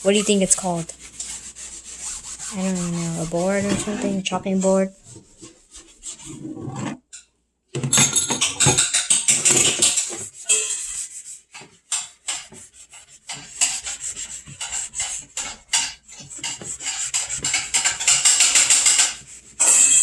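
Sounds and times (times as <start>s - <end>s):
scrubbing chopping board: 0.0s - 7.0s, 9.8s - 20.0s.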